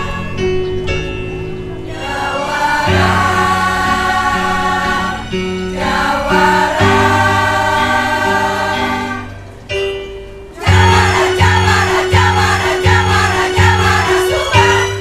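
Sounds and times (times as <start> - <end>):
low instrumental accompaniment: 0.0 - 15.0
women's choir singing: 1.8 - 9.6, 10.6 - 15.0.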